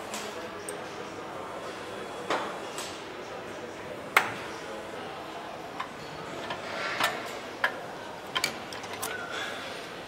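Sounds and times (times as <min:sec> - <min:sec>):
factory background noise: 0:00.0 - 0:10.0.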